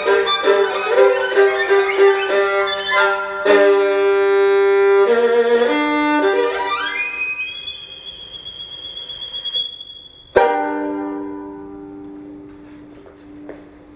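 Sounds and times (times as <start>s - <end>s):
solo violin playing: 0.0s - 13.6s.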